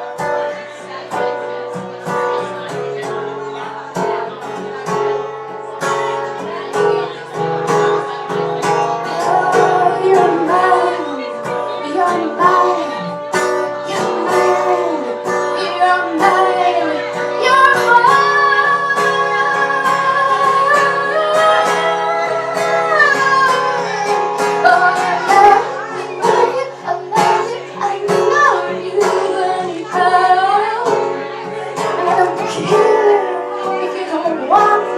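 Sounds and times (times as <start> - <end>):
plucked acoustic guitar: 0.0 - 34.9
woman singing: 6.0 - 34.9.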